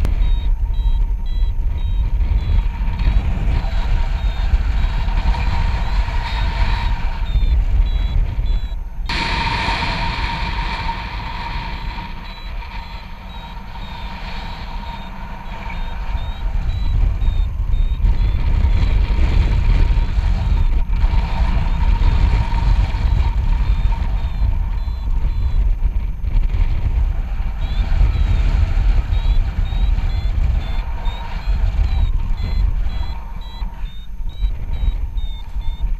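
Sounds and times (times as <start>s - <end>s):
variometer beeping high pips: 0.0s - 35.9s
wind buffeting microphone: 0.0s - 35.9s.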